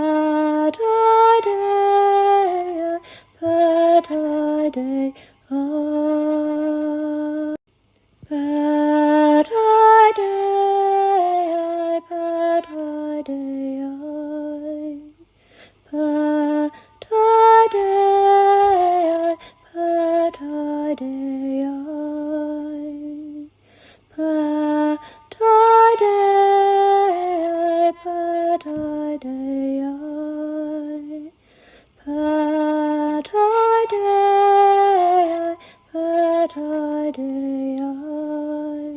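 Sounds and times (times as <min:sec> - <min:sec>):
woman singing wordless chant: 0:00.0 - 0:07.6, 0:08.2 - 0:38.9.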